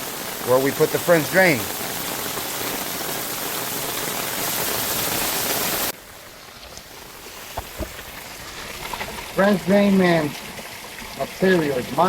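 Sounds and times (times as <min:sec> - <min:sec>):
heavy rain pouring: 0:00.0 - 0:12.0
rain patter: 0:00.0 - 0:12.0.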